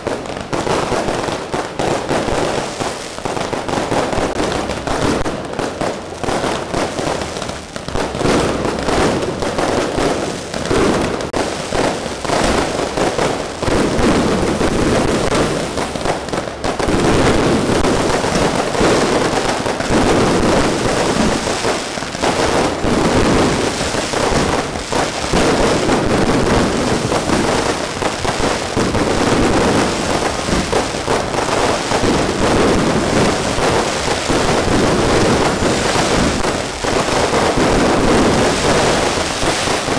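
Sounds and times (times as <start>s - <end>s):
fireworks cracking and banging: 0.0s - 39.9s.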